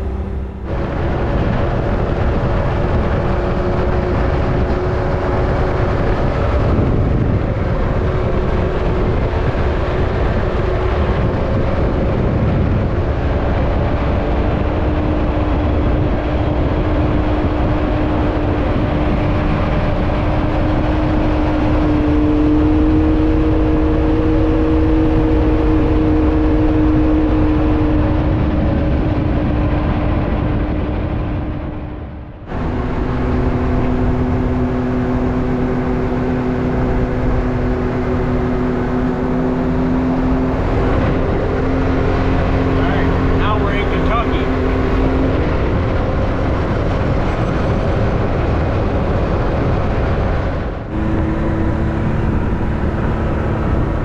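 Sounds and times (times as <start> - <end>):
vehicle engine drone: 0.0 - 54.0
wind rush: 0.0 - 54.0.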